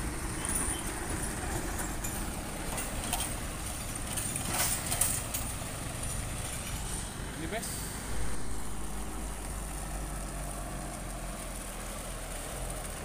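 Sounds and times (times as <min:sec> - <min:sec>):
truck engine driving past: 0:00.0 - 0:13.0.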